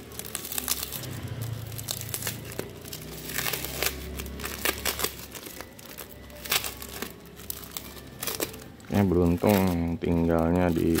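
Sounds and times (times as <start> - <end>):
tissue paper and tape crinkling: 0.0 - 11.0.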